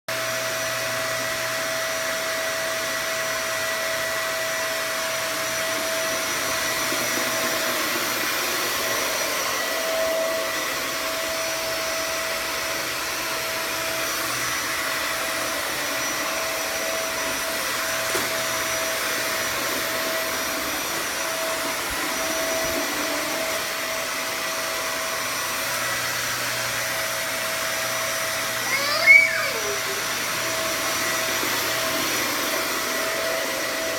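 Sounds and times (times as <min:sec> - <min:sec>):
vacuum cleaner motor whining: 0:00.1 - 0:33.9.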